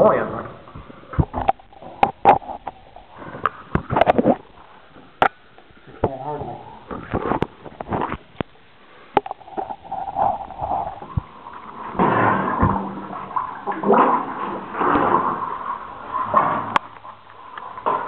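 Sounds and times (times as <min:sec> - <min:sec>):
water splashing and gurgling: 0:00.7 - 0:18.0.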